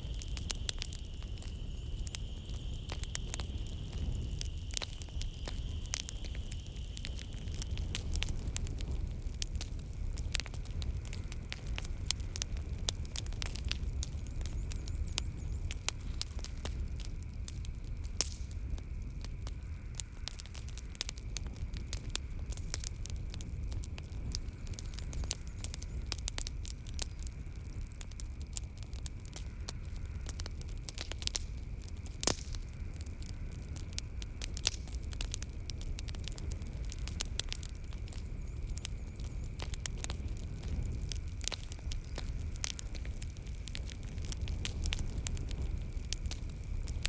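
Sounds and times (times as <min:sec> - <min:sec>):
flames rumbling in fireplace: 0:00.0 - 0:47.0
night insects chirring: 0:00.0 - 0:47.0
wood fire crackling and popping: 0:00.0 - 0:47.0.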